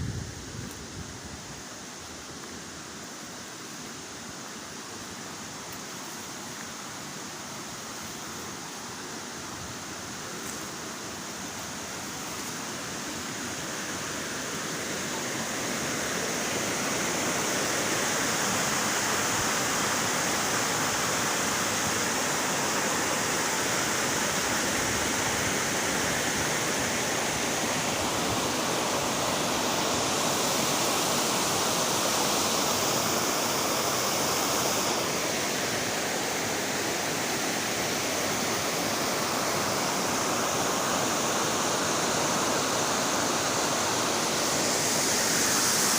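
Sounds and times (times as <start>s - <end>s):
waterfall rushing: 2.8s - 45.9s.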